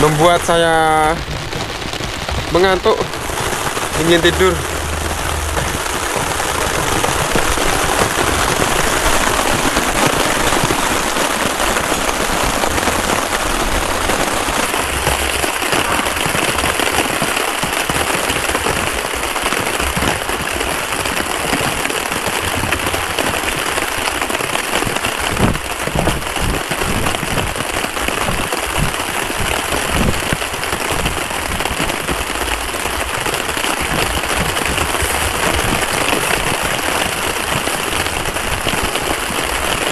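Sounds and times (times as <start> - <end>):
rain on a plastic tarp: 0.0 - 39.9.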